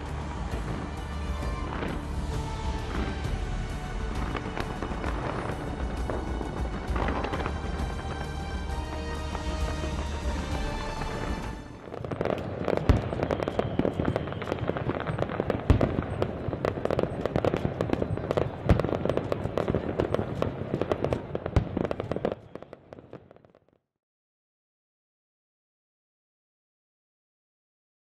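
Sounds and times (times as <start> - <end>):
deep fireworks booms: 0.0 - 23.6
fireworks bangs and crackling: 0.0 - 23.7.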